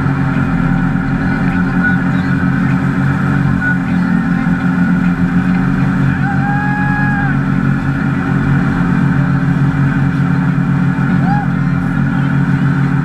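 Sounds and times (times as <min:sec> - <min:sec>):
boat engine running: 0:00.0 - 0:13.0
rushing water: 0:00.0 - 0:13.0
wind: 0:00.0 - 0:13.0.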